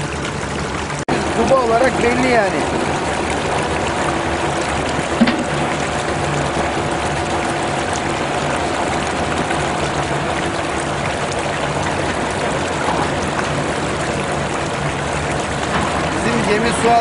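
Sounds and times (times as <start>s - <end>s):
machine hum: 0.0s - 17.0s
muddy water rushing: 0.0s - 17.0s.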